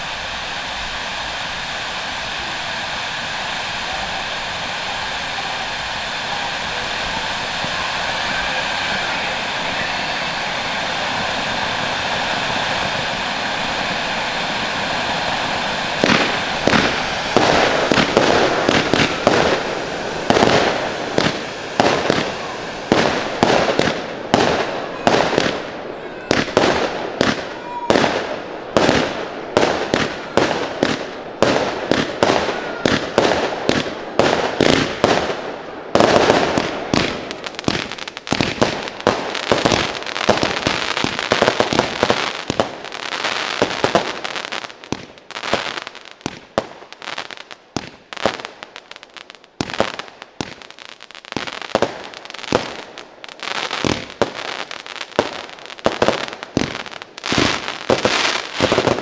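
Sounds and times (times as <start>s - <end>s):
fireworks shots and bangs: 0.0s - 48.8s, 49.4s - 59.0s.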